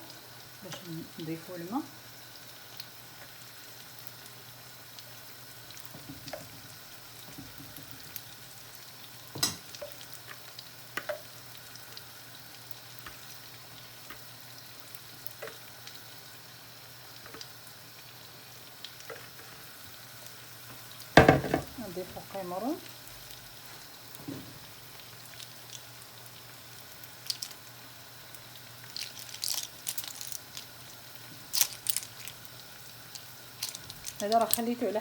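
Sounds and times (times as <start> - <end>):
paella sizzling in a pan: 0.0 - 35.0.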